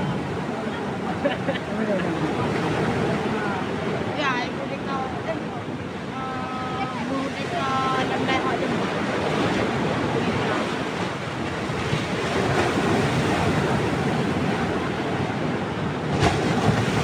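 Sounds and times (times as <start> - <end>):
waves breaking against jetty: 0.0 - 17.0.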